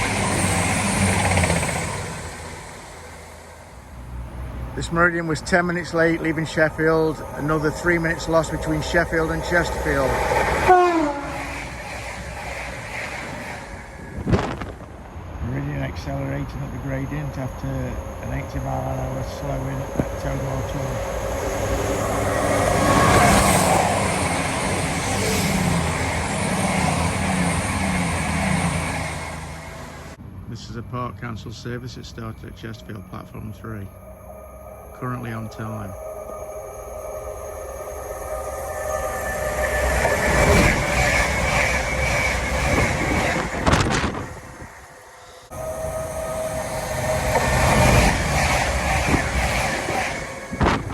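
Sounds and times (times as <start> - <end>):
diesel train passing: 0.0 - 50.9.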